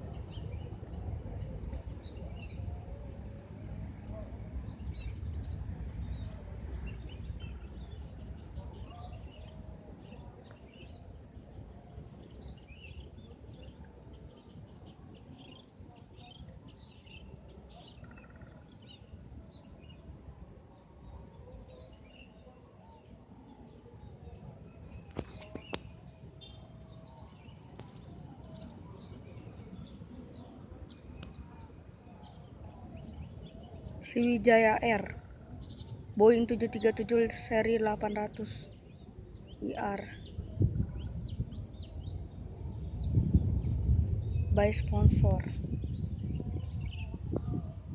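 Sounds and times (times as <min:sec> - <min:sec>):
birds chirping: 0:00.0 - 0:20.1, 0:21.1 - 0:47.9.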